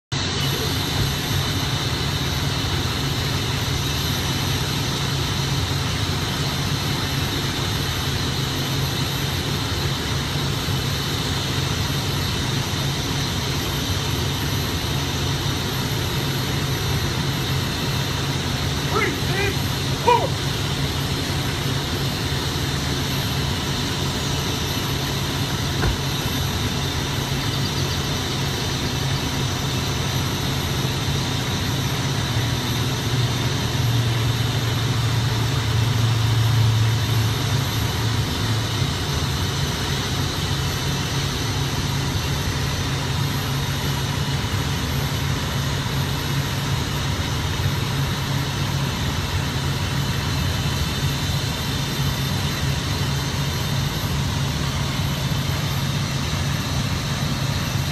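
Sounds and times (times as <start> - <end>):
heavy vehicle engine idling: 0.1 - 57.9.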